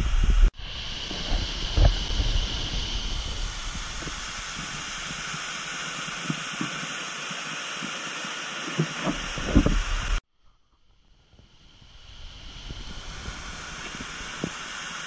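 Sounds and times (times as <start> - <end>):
steam venting: 0.0 - 10.2, 11.3 - 15.0
water cascading over rock: 0.0 - 10.2, 11.7 - 15.0.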